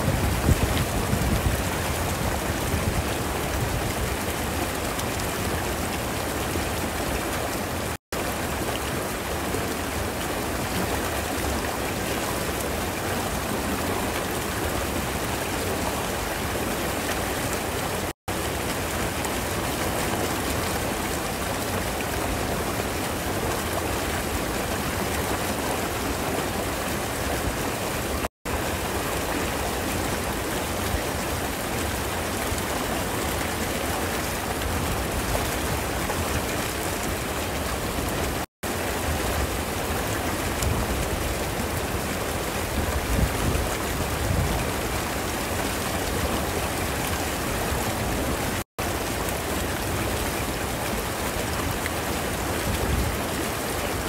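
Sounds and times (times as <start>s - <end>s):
water rushing through canal gate: 0.0s - 54.0s.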